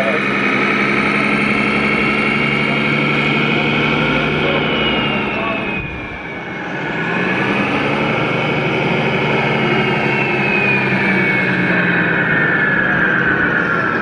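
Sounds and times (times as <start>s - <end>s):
high whine falling in pitch: 0.0s - 14.0s
loud engine noise: 0.0s - 14.0s.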